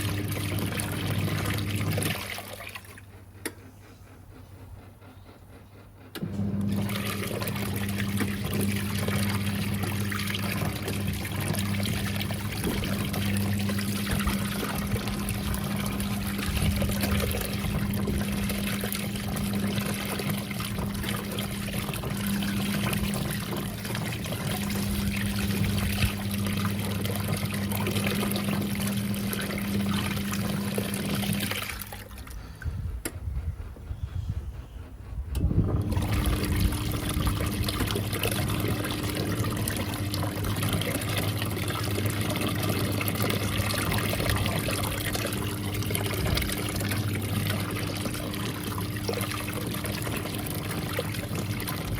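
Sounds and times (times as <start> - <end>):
water splashing in washing machine: 0.0 - 3.6, 6.1 - 33.5, 35.2 - 51.9
washing machine hum: 0.0 - 51.9.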